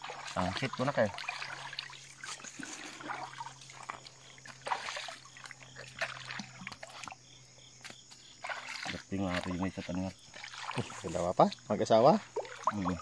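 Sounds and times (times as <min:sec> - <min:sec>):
shallow water trickling: 0:00.0 - 0:13.0
small water splashes: 0:00.0 - 0:13.0.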